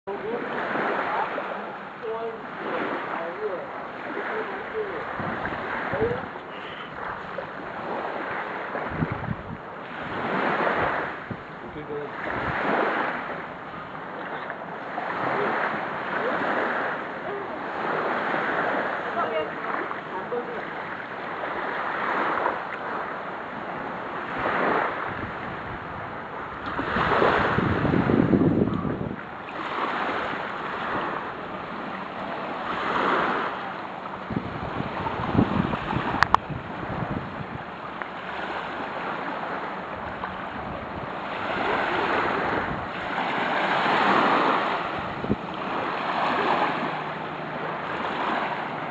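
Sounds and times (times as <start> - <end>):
small waves washing on sand: 0.1 - 48.9
wind buffeting microphone: 0.3 - 48.9.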